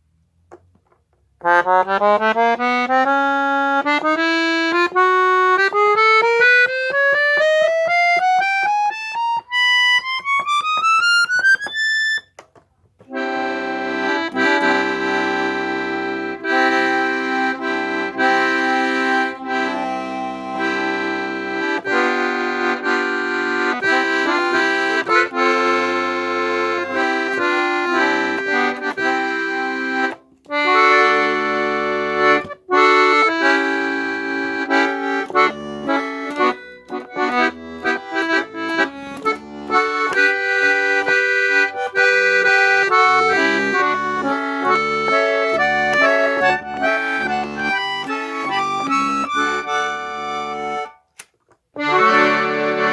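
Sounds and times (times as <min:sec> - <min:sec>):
accordion playing: 0:01.4 - 0:52.9.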